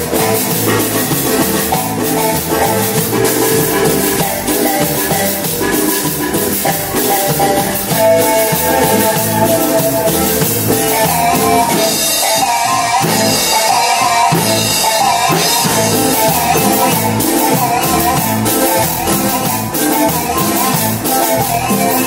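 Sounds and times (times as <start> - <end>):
amplified melodic instruments: 0.0 - 22.0
drum kit steady beat: 0.0 - 22.0.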